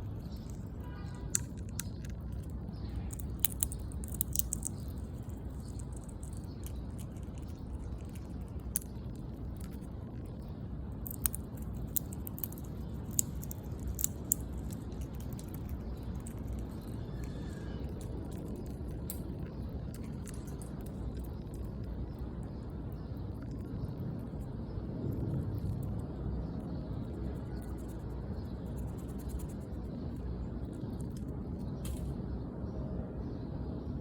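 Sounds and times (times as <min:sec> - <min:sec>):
sharp little clicks and ticks: 0:00.0 - 0:24.5, 0:25.1 - 0:32.2
steady low rumble: 0:00.0 - 0:34.0.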